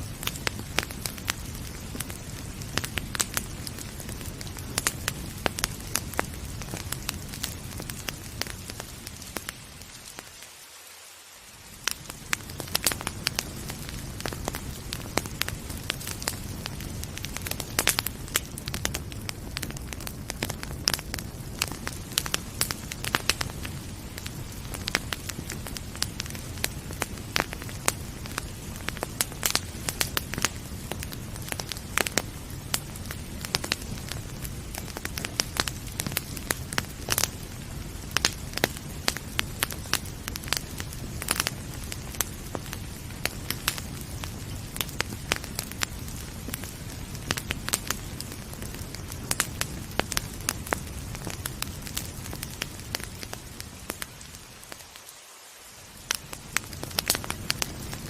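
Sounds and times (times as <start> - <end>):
rain hissing: 0.0 - 58.0
wood fire crackling: 0.0 - 58.0.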